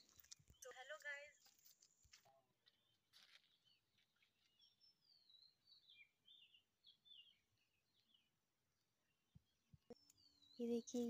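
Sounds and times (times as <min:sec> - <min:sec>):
faint bird song: 0:00.0 - 0:11.0.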